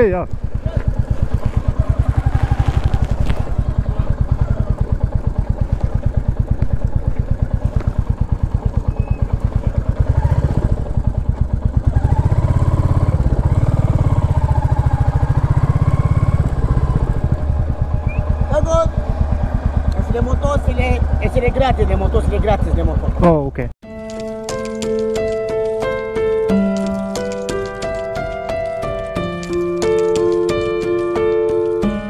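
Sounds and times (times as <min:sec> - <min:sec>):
motorcycle engine thumping: 0:00.0 - 0:32.0.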